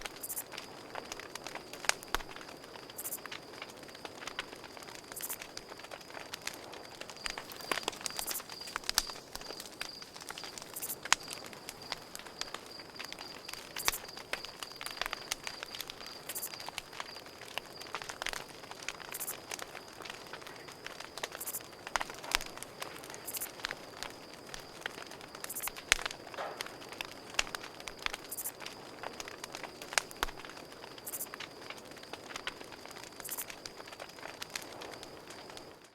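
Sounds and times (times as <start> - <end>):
campfire crackling: 0.0 - 35.9
crickets chirping: 0.0 - 35.9.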